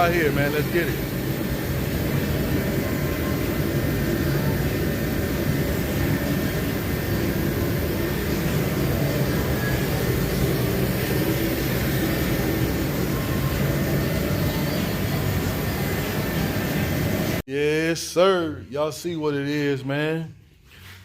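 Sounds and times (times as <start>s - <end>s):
steady hiss: 0.0s - 17.4s
steady low rumble: 0.0s - 17.4s.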